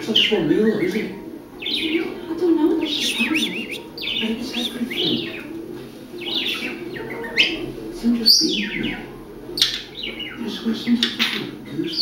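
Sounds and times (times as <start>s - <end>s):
budgerigar chirping and warbling: 0.2s - 2.2s, 2.8s - 5.5s, 6.2s - 12.0s.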